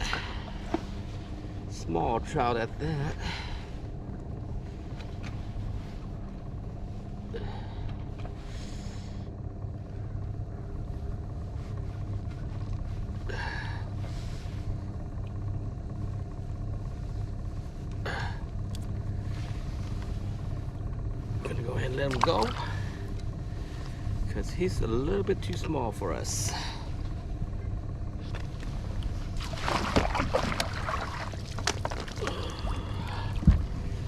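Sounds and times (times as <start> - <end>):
outboard motor droning: 0.0 - 34.0.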